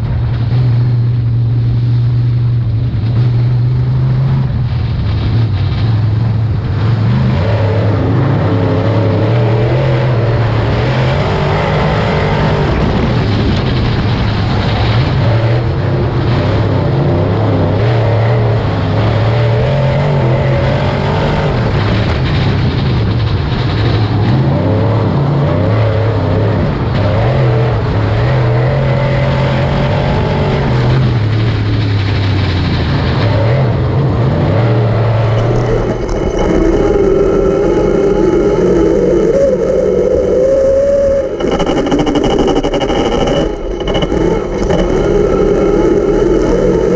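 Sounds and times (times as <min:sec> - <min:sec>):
race car engines running hard: 0:00.0 - 0:46.9.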